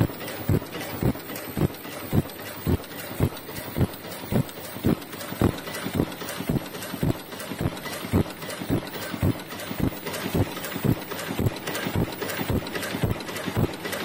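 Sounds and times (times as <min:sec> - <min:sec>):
light machine clicks: 0:00.0 - 0:14.0
machine knocking rhythmically: 0:00.0 - 0:14.0.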